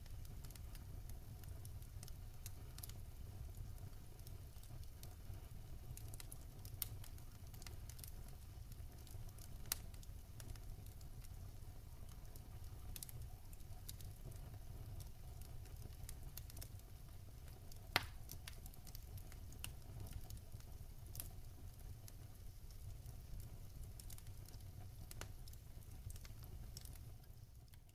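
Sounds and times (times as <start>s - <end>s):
fire crackling and popping: 0.0s - 27.9s.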